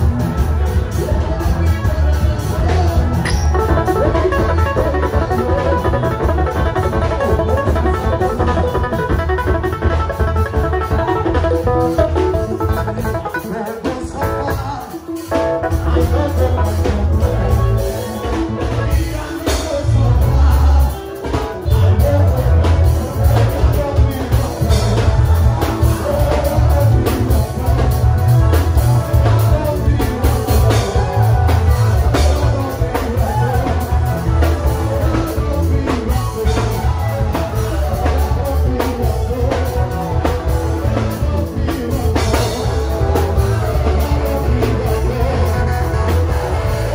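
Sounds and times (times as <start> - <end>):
gospel band music: 0.0 - 46.9
person singing: 0.0 - 46.9.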